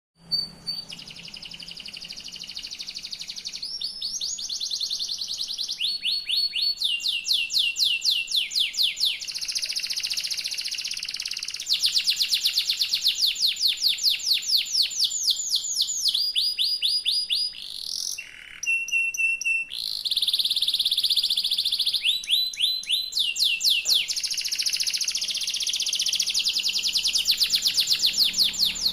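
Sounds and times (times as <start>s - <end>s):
canary singing trills: 0.2s - 28.9s.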